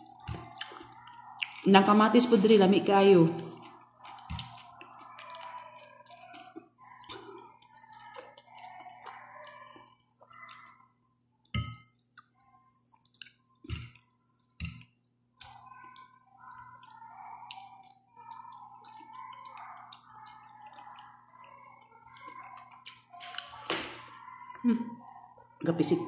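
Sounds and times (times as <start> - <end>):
slurping and chewing: 0.0 - 1.7, 3.3 - 11.2, 11.8 - 25.4.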